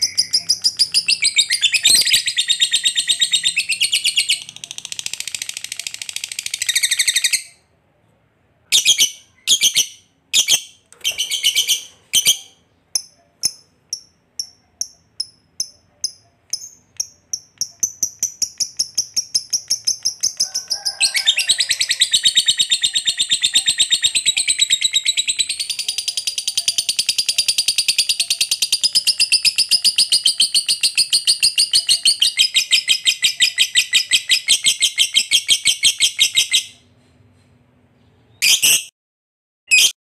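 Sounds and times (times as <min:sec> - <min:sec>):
lovebird rapid chattering song: 0:00.0 - 0:07.6, 0:08.8 - 0:20.4, 0:21.6 - 0:36.8.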